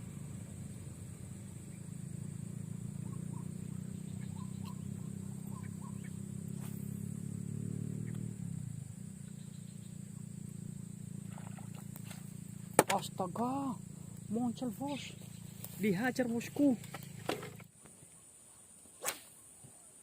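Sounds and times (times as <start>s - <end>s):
motor engine running: 0.0s - 17.7s
faint chirps: 0.0s - 20.0s
high insect drone: 0.0s - 20.0s.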